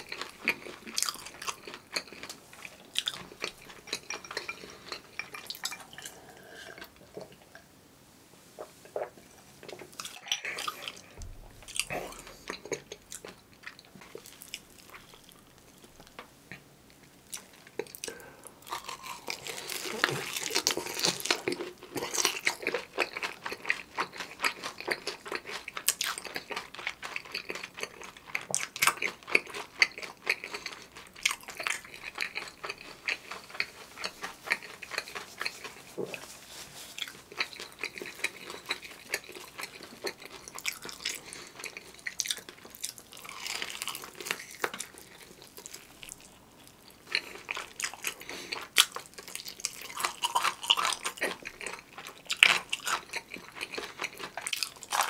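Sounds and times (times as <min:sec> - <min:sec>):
chewing: 0:00.0 - 0:07.7, 0:08.6 - 0:55.0.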